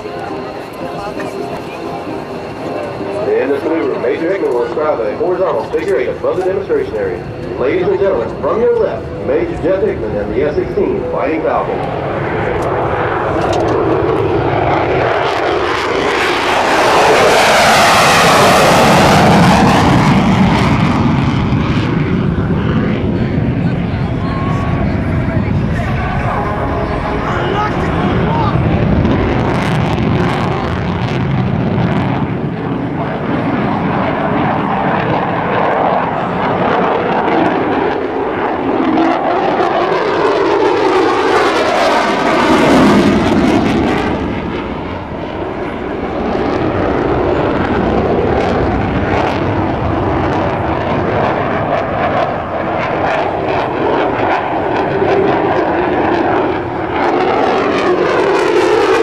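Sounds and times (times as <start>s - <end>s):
jet engine roar: 0.0s - 59.0s
jet passing whoosh: 0.0s - 59.0s.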